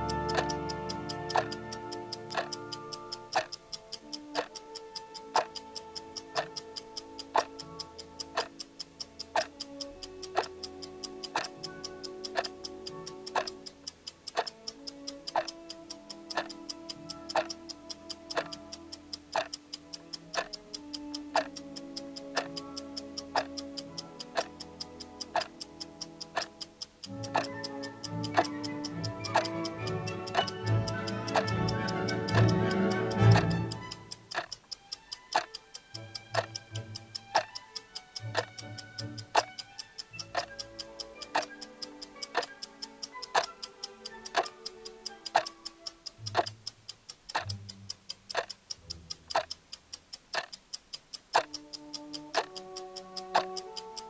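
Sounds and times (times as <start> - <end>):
background music with sustained notes: 0.0 - 46.4, 51.7 - 54.0
clock ticking: 0.0 - 54.0.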